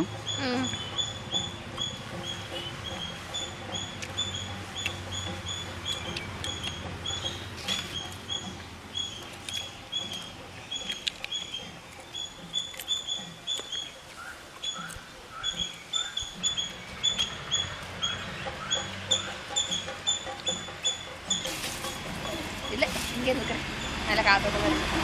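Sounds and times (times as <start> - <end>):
small animal chirping: 0.0 - 24.0.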